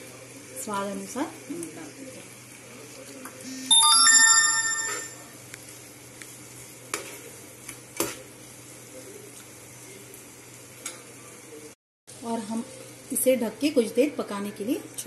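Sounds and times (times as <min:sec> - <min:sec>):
vegetables sizzling in pan: 0:00.0 - 0:03.2, 0:05.6 - 0:15.0.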